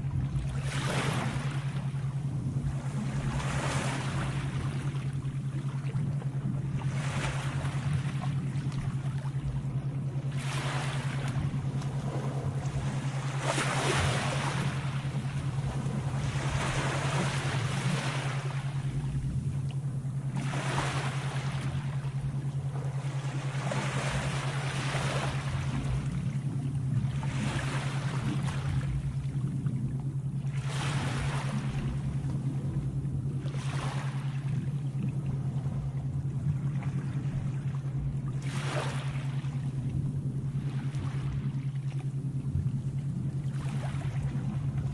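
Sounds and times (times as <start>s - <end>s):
sea waves washing in: 0.0s - 44.9s
steady low hum: 0.0s - 44.9s.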